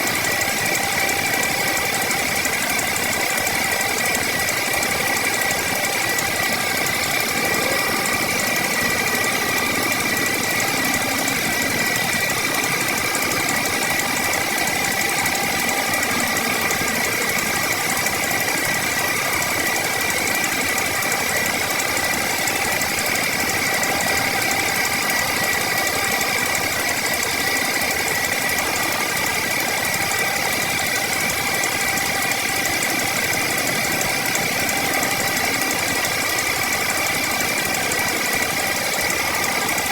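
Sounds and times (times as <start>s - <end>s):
woodworking machine motor whining: 0.0s - 39.9s.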